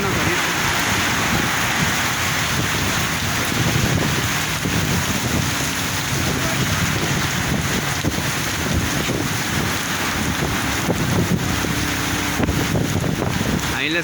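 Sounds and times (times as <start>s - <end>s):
heavy rain falling: 0.0s - 14.0s
wind rumbling on microphone: 0.0s - 14.0s.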